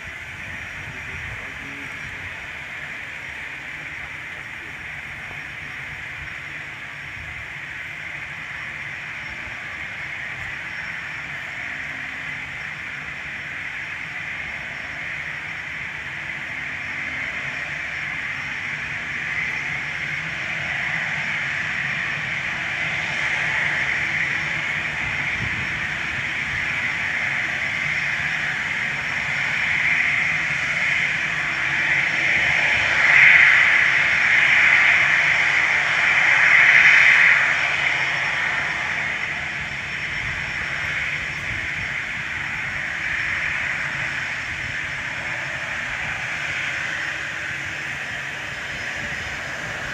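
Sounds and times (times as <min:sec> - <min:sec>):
jet engines rushing: 0:00.0 - 0:49.9.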